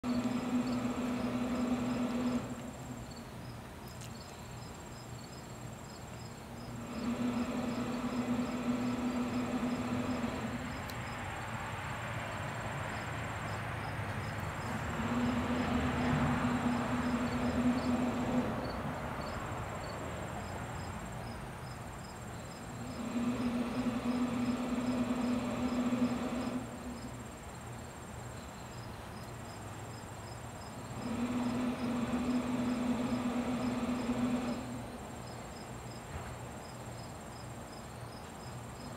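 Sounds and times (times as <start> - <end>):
smoker motor hum: 0.0 - 20.6, 21.8 - 38.9
insects chirping: 0.0 - 38.9.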